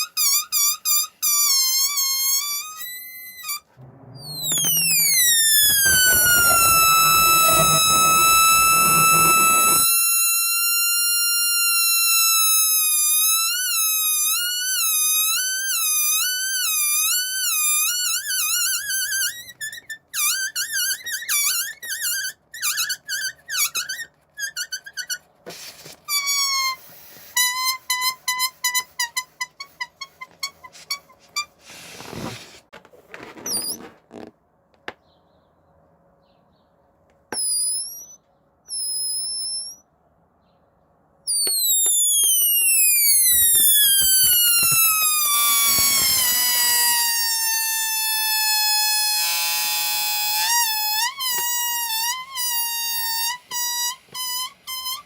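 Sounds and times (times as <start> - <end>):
balloons squealing: 0.0 - 32.7, 33.4 - 34.3, 37.3 - 39.8, 41.3 - 55.0.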